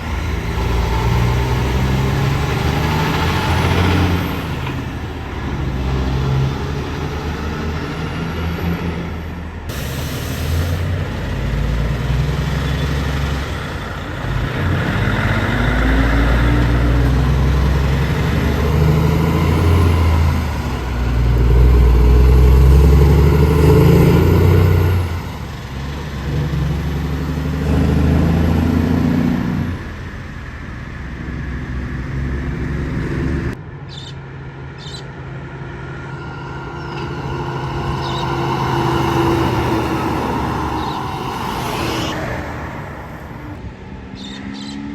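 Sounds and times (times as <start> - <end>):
heavy truck engines passing: 0.0 - 44.9.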